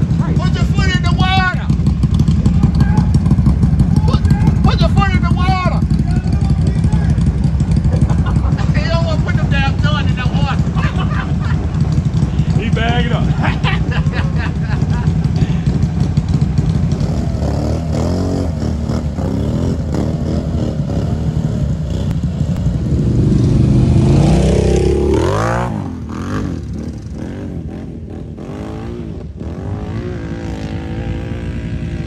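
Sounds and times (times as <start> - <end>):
atv engine revving: 0.0 - 32.0.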